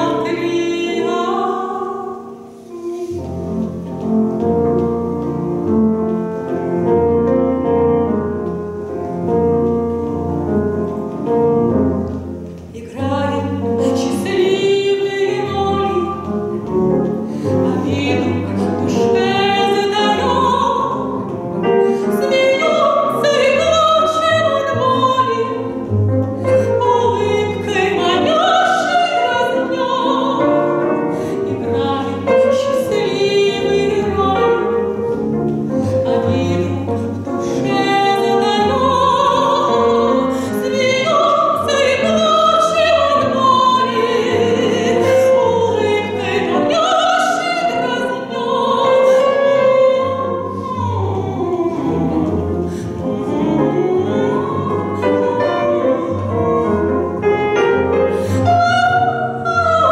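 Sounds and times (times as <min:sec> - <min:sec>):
soprano singing with vibrato: 0:00.0 - 0:07.8, 0:08.8 - 0:59.9
grand piano: 0:00.0 - 0:59.9
double bass: 0:02.8 - 0:59.9.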